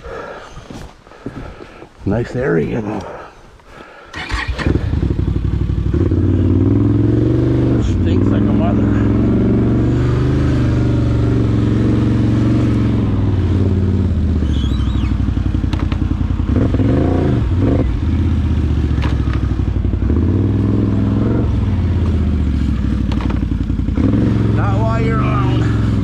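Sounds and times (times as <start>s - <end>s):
atv engine running: 4.1s - 26.0s.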